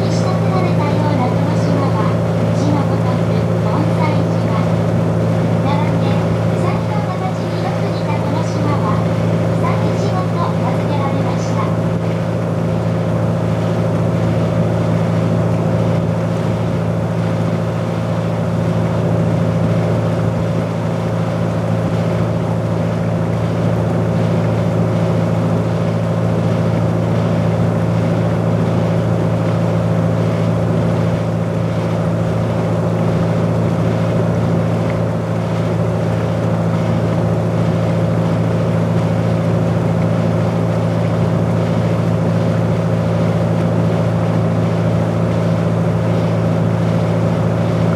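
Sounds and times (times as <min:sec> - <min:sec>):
boat engine droning: 0:00.0 - 0:47.9.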